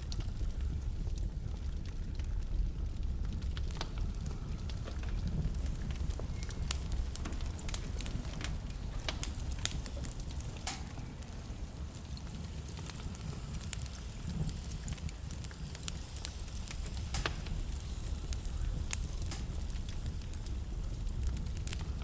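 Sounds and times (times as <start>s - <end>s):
burning logs crackling and popping: 0.0s - 22.0s
fire rumbling: 0.0s - 22.0s.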